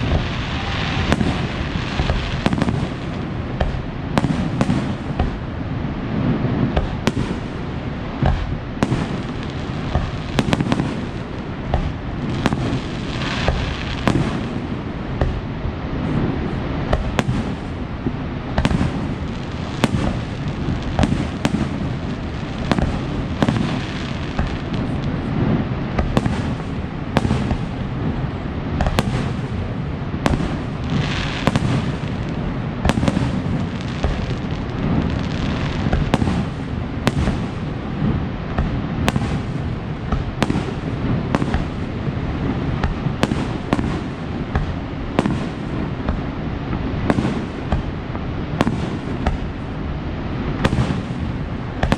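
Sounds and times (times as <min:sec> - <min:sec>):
fireworks bangs: 0:00.0 - 0:51.9
hissing crackle: 0:00.0 - 0:51.9.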